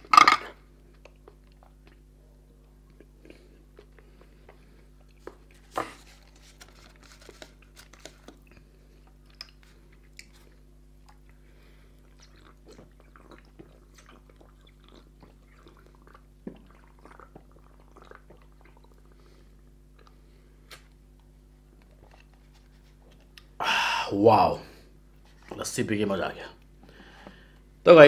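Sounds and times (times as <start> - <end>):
man chewing and drinking: 0.0 - 23.6.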